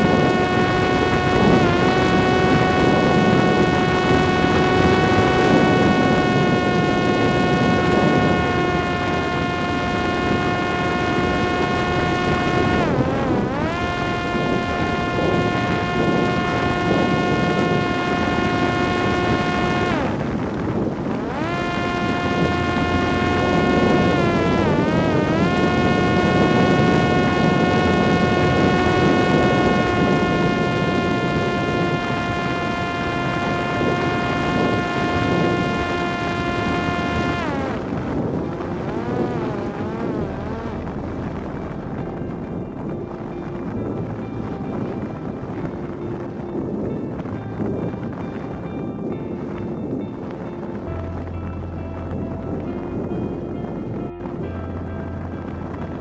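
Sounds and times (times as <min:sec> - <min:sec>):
drone motor and propeller whining: 0:00.0 - 0:56.0
wind rushing: 0:00.0 - 0:56.0.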